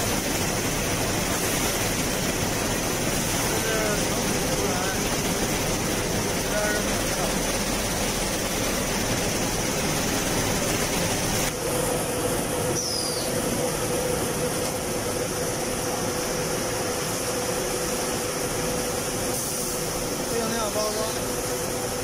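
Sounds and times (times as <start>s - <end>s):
dense mechanical machinery noise: 0.0s - 22.0s
steady hum: 0.0s - 22.0s.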